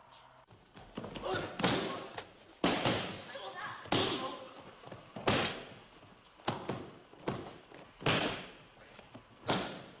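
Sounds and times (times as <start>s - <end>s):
bodies slapping on mats: 0.5s - 10.0s.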